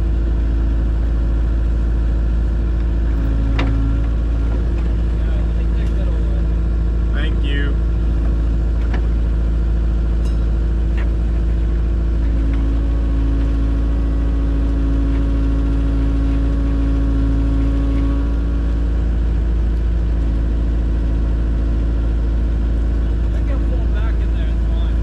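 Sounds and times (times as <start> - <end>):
engine rumbling steadily: 0.0 - 25.0.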